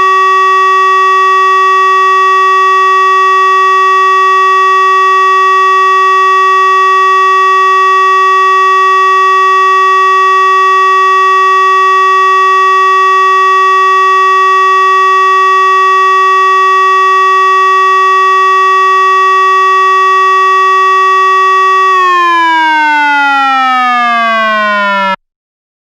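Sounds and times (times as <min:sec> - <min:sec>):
steady warning siren tone: 0:00.0 - 0:25.2.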